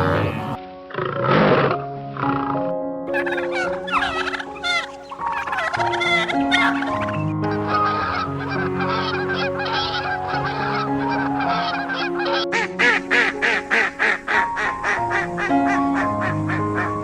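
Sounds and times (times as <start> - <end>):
background music: 3.2 - 17.0
geese honking: 3.2 - 17.0.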